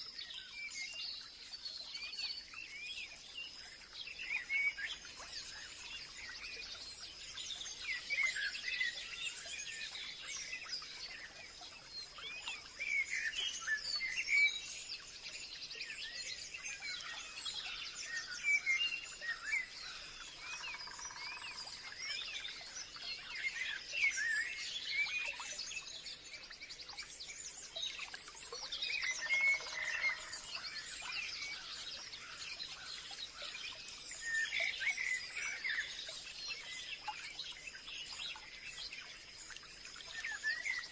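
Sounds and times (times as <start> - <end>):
forest birds chirping: 0.0 - 40.9.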